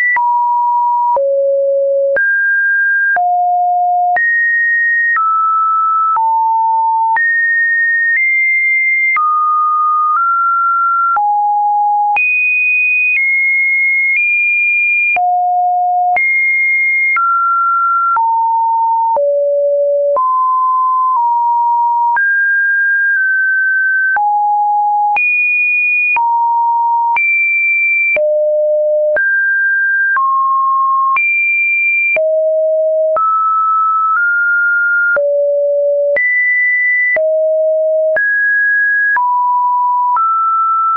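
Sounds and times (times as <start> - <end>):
sine-wave beep changing pitch: 0.0 - 12.2, 15.1 - 25.3, 28.1 - 31.4, 32.1 - 40.9.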